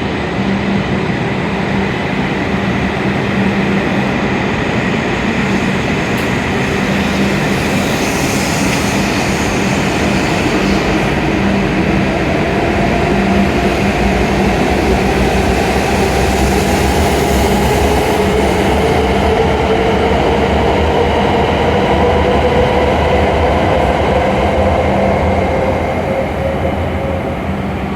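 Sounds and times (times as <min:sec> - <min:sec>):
train running noise: 0:00.0 - 0:27.9.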